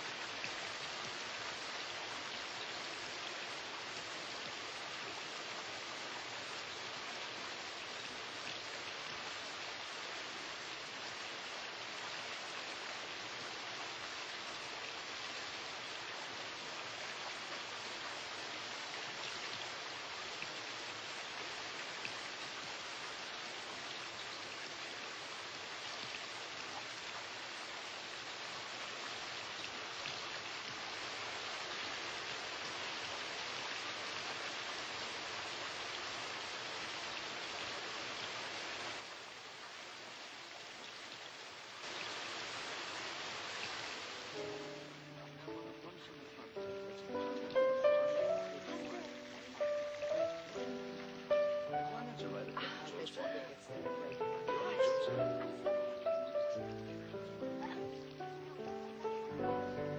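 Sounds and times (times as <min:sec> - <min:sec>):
water rushing along a channel: 0:00.0 - 0:59.9.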